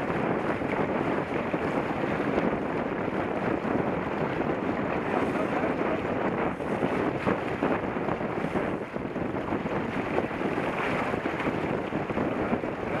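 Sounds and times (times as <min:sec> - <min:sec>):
water rushing along boat hull: 0:00.0 - 0:13.0
wind buffeting microphone: 0:00.0 - 0:13.0.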